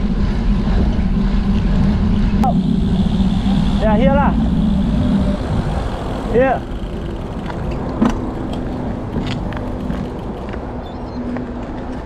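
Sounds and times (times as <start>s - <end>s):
bicycle tyre noise: 0.0s - 10.8s
wind rush: 0.0s - 10.8s
steady low hum: 0.0s - 10.9s.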